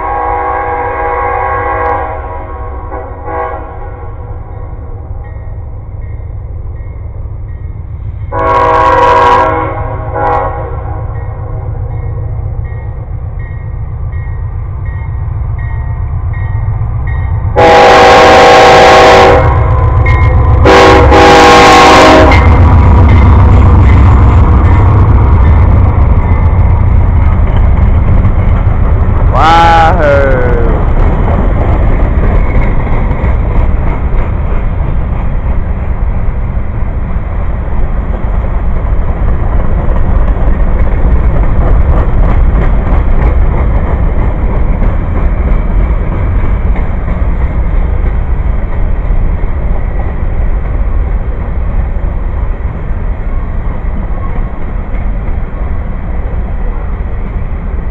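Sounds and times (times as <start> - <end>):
train cars rumbling past: 0.0 - 57.9.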